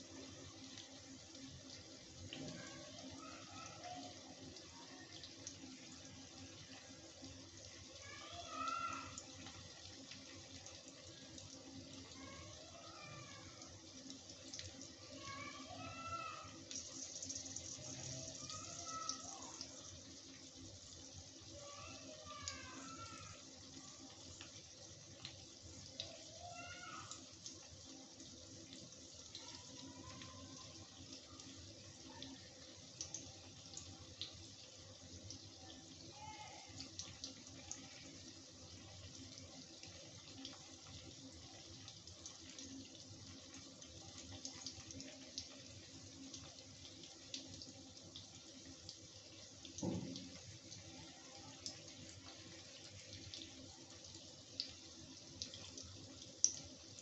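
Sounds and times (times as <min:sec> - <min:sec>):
cheese sizzling in oil: 0:00.0 - 0:57.0.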